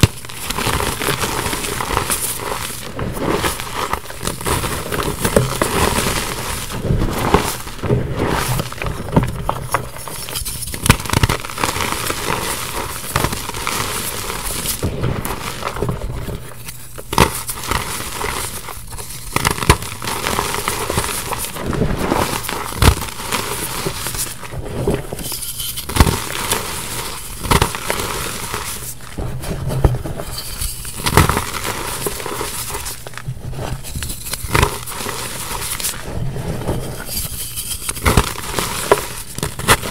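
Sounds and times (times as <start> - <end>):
chalk lumps cracking: 0.0 - 29.2, 30.2 - 39.9.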